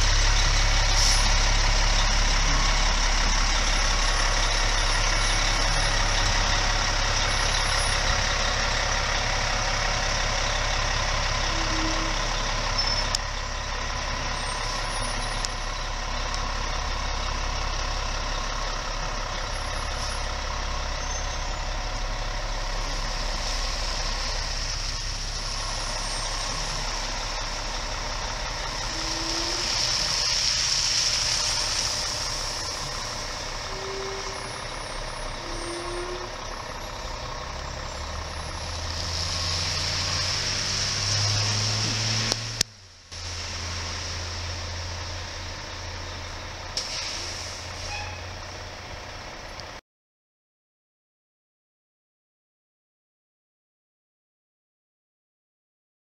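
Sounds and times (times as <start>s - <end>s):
diesel engine running: 0.0s - 49.8s.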